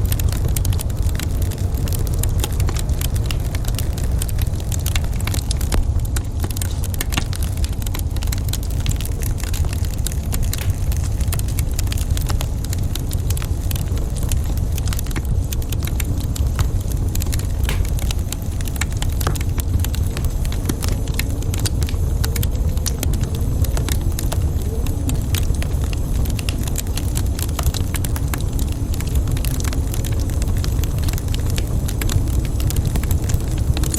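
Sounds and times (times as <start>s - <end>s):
low rumble of fire: 0.0s - 33.9s
wood fire crackling: 0.0s - 33.9s.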